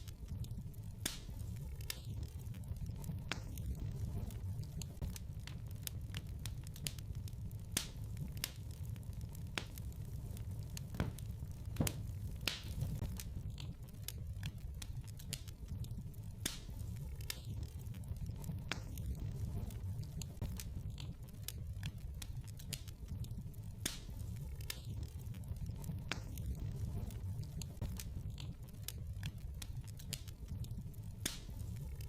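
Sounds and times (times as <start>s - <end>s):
steady low rumble: 0.0s - 32.0s
wood fire crackling and popping: 0.0s - 32.0s.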